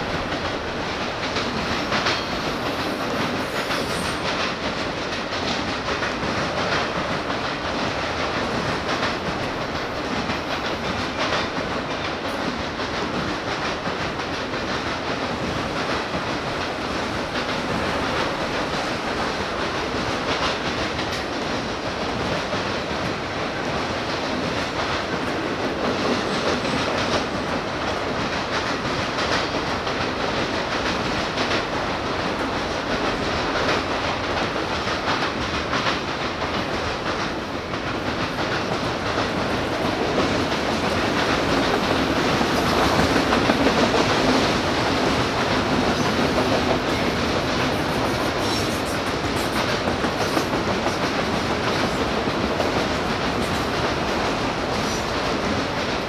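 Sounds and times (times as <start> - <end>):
wheels clicking over rail joints: 0.0 - 23.4, 24.0 - 56.0.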